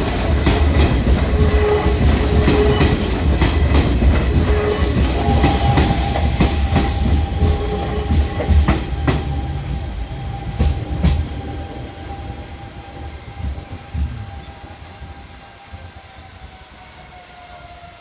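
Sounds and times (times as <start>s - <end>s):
electric train rumbling past: 0.0s - 18.0s
high train whine: 0.0s - 18.0s.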